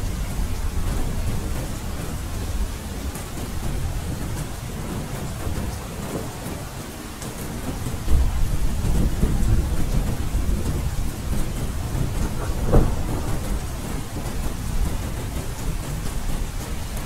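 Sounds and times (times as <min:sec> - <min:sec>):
gentle rain: 0:00.0 - 0:17.0
low thunder rumbling: 0:00.0 - 0:17.0.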